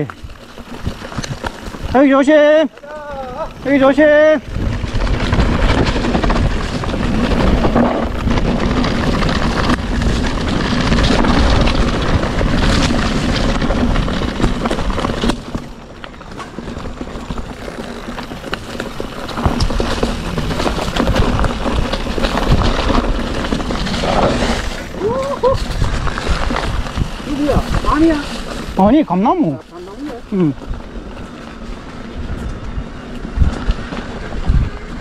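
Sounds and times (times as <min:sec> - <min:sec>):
bike tyre rumble and rattling: 0:00.0 - 0:35.0
wind buffeting microphone: 0:03.0 - 0:35.0.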